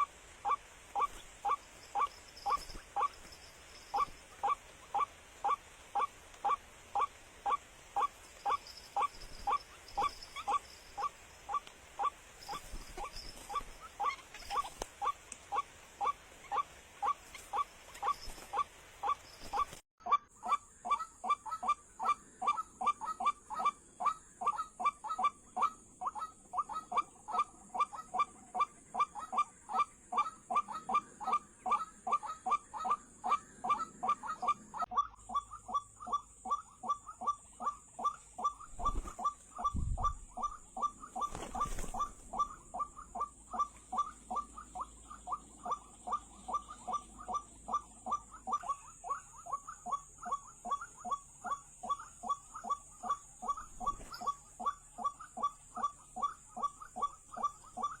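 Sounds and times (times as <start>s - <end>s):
waterhen calling: 0.0s - 58.0s.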